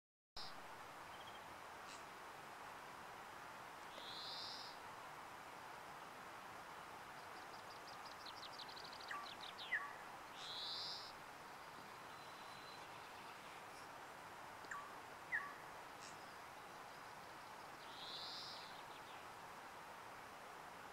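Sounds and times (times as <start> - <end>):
faint birdsong: 0.4 - 2.2, 3.8 - 20.9
steady background hiss: 0.4 - 20.9.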